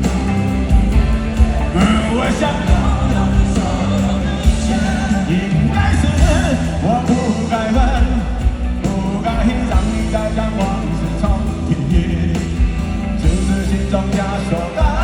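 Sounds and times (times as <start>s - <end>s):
live rock band ballad: 0.0s - 15.0s
person singing: 1.0s - 15.0s.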